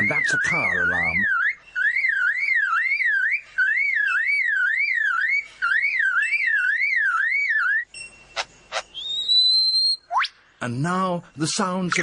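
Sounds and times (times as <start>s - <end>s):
lyrebird imitating a car alarm: 0.0s - 10.3s.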